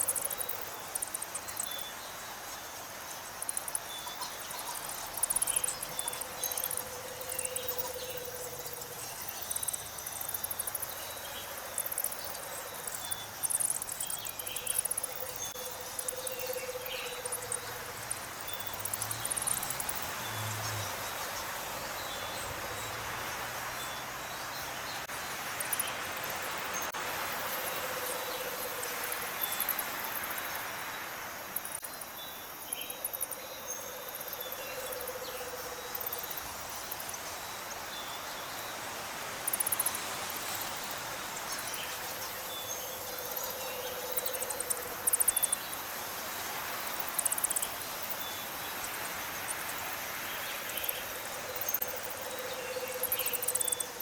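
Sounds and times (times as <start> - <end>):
insects chirping and trilling: 0.0 - 54.0.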